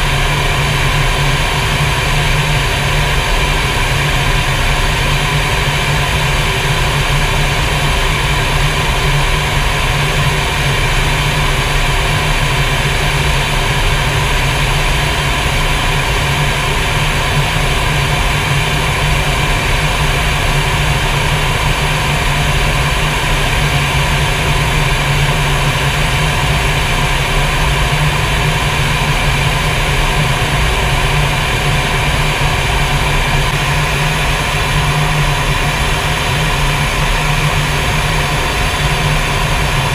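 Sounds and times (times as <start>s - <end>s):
jet engine and airflow drone: 0.0s - 39.9s.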